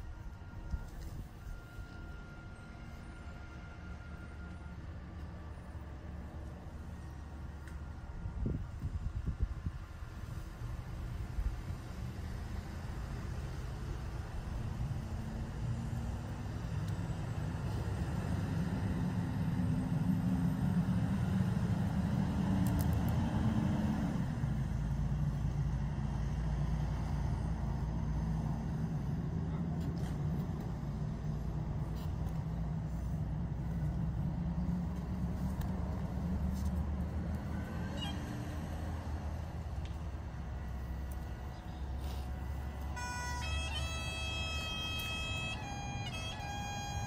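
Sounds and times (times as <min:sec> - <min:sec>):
motor vehicle engine running: 0:00.0 - 0:47.0.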